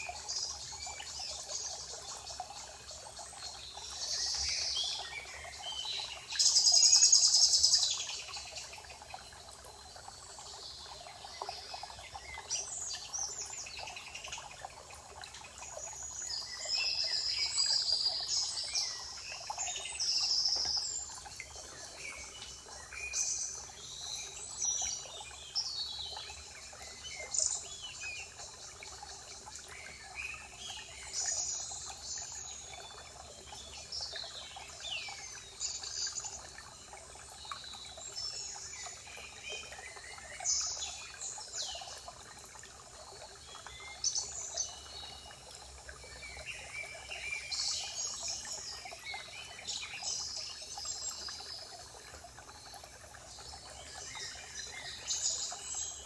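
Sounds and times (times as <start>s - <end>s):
faint forest ambience hiss: 0.0s - 56.0s
songbirds singing and chirping: 0.0s - 56.0s.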